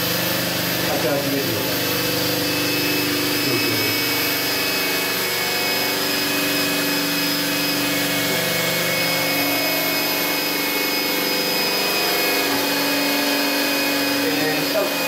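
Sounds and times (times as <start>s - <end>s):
hammer drill boring into cardboard: 2.5s - 15.0s.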